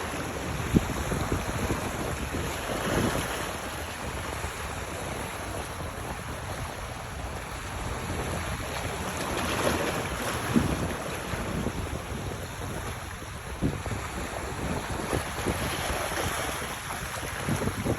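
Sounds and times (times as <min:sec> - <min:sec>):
water noise: 0:00.0 - 0:17.9
wind buffeting microphone: 0:00.0 - 0:17.9.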